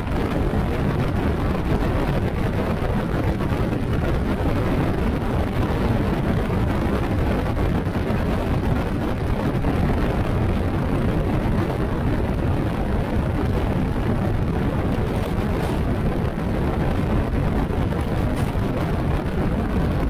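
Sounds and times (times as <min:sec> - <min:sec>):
motorcycle low rumble: 0:00.0 - 0:20.0
wind rushing on microphone: 0:00.0 - 0:20.0.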